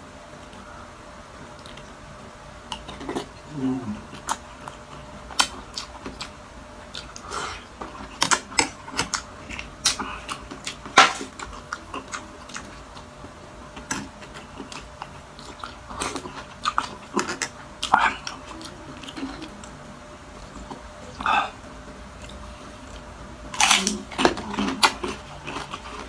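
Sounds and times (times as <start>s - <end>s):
chewing crisp food: 1.4s - 26.0s.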